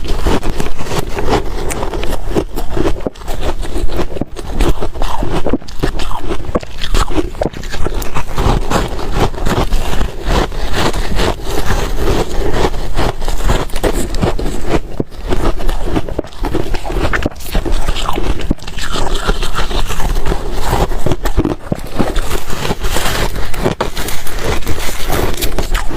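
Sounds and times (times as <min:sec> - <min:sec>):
ice being crunched and chewed: 0:00.0 - 0:25.9.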